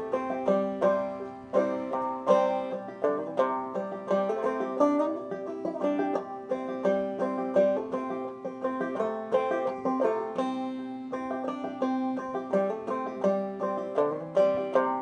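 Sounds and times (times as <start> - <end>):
clawhammer banjo playing: 0.0 - 15.0.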